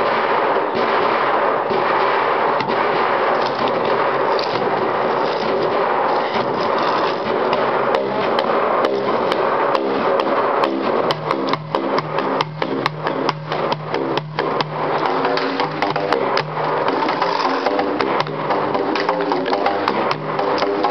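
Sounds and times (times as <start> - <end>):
drumming on water-covered drums: 0.0 - 20.9
struck plastic tubes: 0.0 - 20.9.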